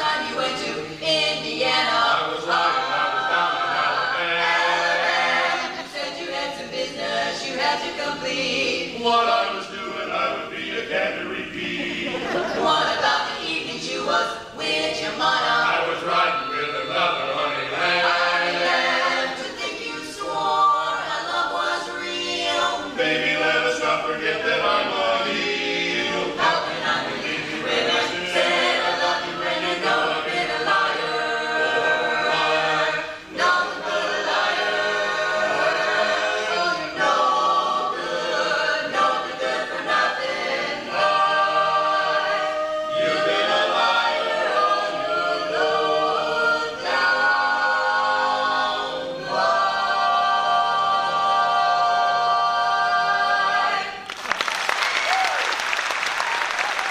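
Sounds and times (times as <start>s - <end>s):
a cappella group singing: 0.0s - 54.3s.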